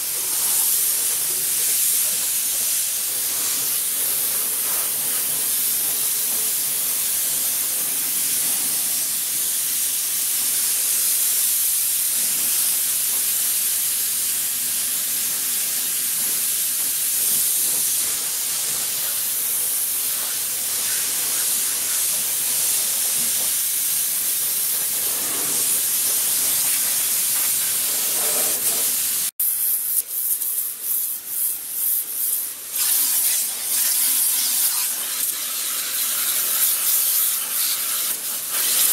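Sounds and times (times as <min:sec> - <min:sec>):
pressure washer jet hissing: 0:00.0 - 0:38.9.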